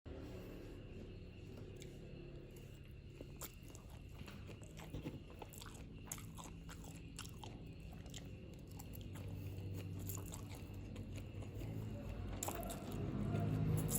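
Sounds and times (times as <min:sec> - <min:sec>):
person chewing noodles: 0:01.1 - 0:13.9.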